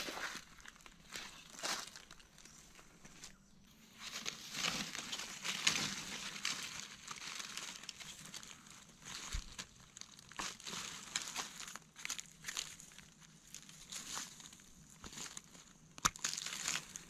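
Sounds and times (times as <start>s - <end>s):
dry leaves crackling and rustling: 0.0s - 2.8s, 3.9s - 17.0s.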